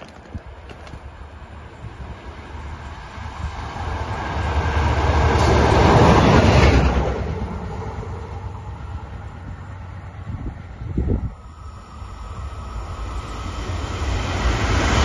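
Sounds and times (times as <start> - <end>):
locomotive wheels rumbling on rails: 0.0 - 15.0.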